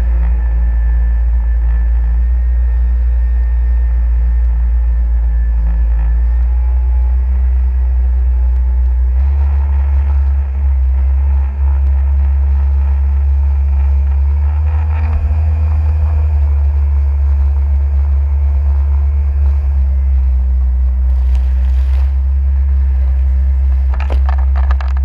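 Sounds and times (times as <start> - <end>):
jet ski engine rumbling: 0.0 - 25.0.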